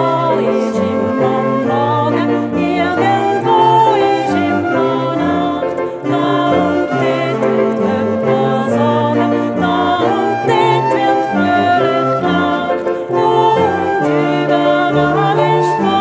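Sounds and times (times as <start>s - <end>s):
voices singing with accompaniment: 0.0s - 16.0s.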